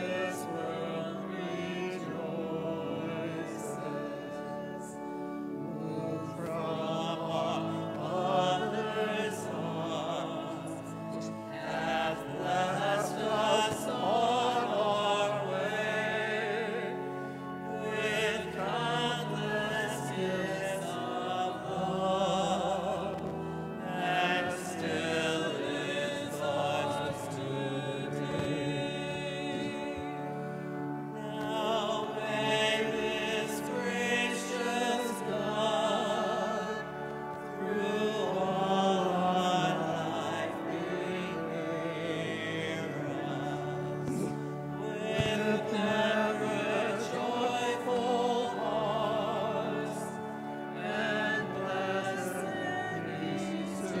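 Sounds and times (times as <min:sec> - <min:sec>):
instrumental accompaniment: 0:00.0 - 0:54.0
voices singing a hymn: 0:00.0 - 0:54.0.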